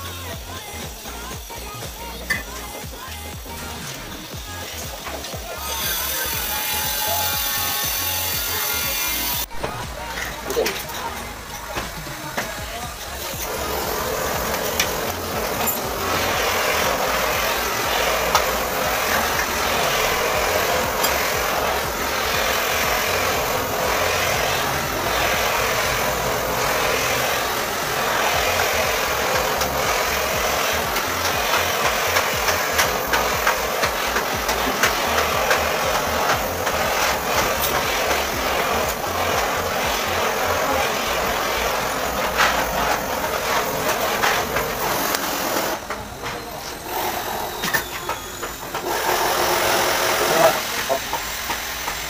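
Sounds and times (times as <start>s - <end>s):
blowtorch flame hissing: 0.0s - 52.0s.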